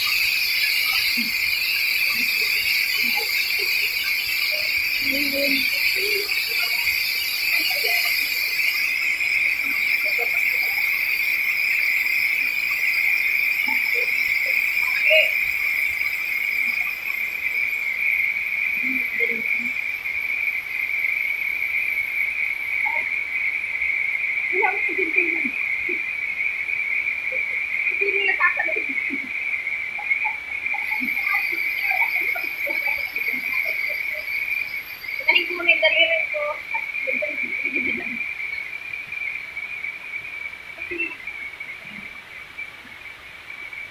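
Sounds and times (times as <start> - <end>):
higher-pitched insect: 0.0 - 43.9
insects droning: 0.0 - 43.9.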